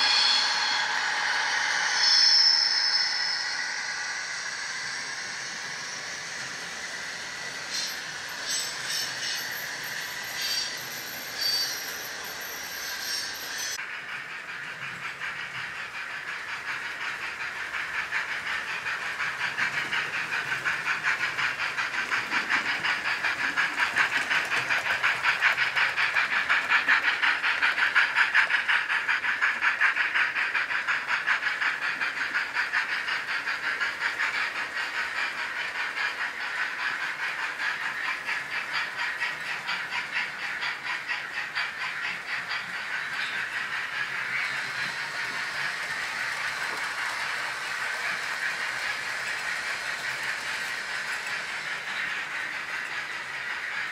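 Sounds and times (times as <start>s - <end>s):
model train whirring and rattling: 0.0s - 53.9s.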